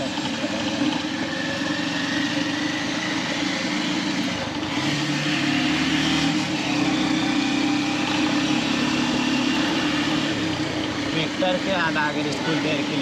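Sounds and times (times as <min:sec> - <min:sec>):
motorcycle engine running: 0:00.0 - 0:13.0
road and wind noise: 0:01.4 - 0:13.0.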